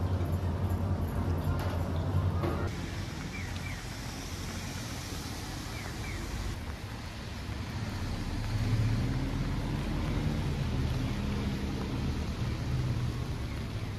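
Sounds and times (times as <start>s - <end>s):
steady street background rush: 0.0s - 13.9s.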